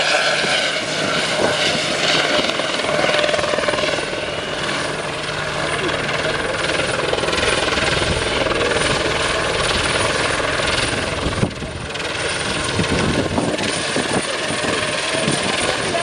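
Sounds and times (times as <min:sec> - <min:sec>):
helicopter rotor and turbine noise: 0:00.0 - 0:16.0.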